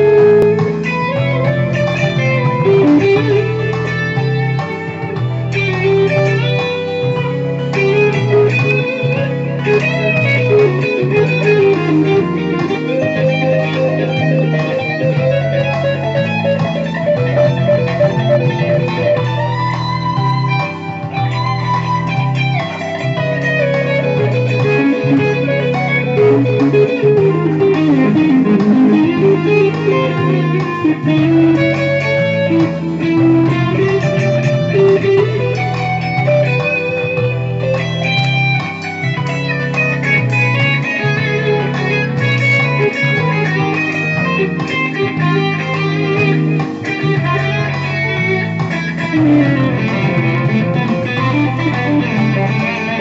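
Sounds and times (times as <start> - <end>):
backing track with bass: 0.0 - 53.0
electric guitar lead: 0.0 - 53.0.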